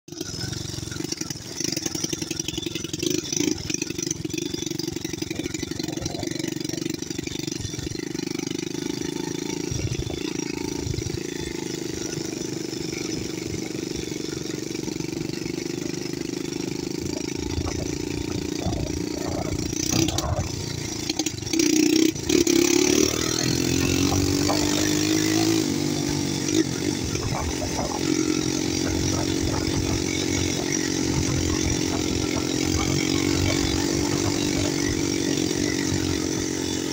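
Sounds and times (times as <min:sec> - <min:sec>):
atv engine running: 0:00.1 - 0:36.9.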